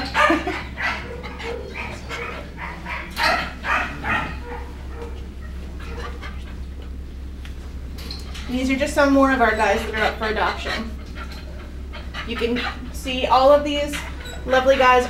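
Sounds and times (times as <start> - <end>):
dogs barking: 0.0 - 7.1, 8.2 - 15.0.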